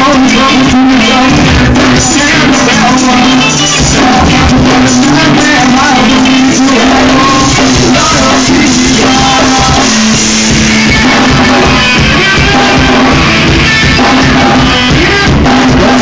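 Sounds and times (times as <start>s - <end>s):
electric guitars: 0.0s - 16.0s
person singing: 0.0s - 16.0s
rock band playing live: 0.0s - 16.0s.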